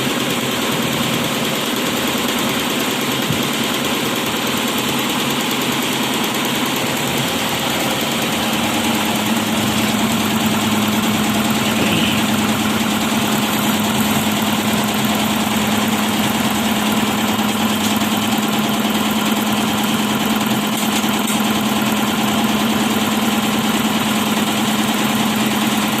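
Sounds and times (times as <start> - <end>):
embroidery machine stitching: 0.0 - 26.0.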